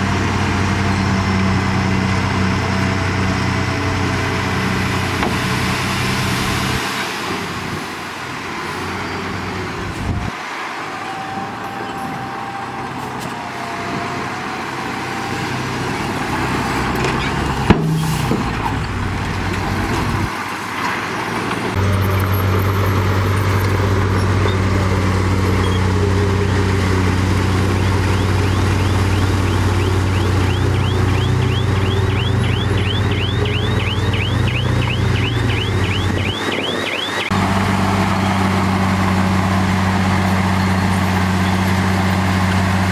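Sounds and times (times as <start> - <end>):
heavy diesel machinery running: 0.0 - 42.9.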